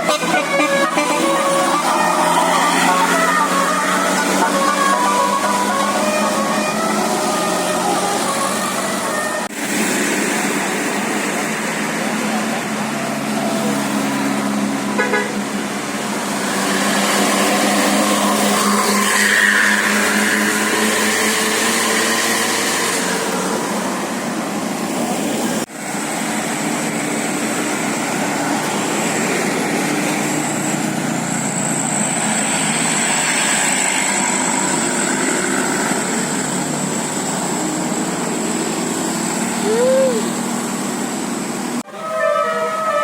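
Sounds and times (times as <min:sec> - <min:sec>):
road traffic engines: 0:00.0 - 0:43.0.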